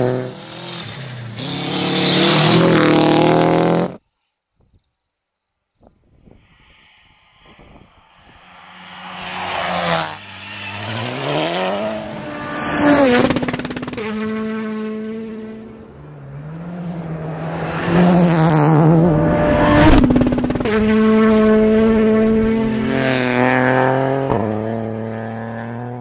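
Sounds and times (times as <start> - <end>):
rally car passing at speed: 0.0 - 4.0, 6.5 - 26.0.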